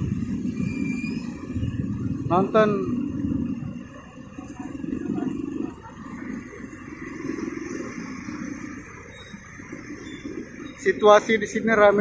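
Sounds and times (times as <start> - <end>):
motorbike and car engines idling: 0.0 - 12.0.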